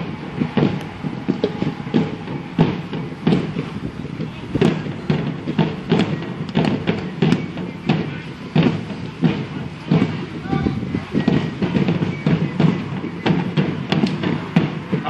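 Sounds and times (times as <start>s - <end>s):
field drum march rhythm: 0.0s - 15.0s.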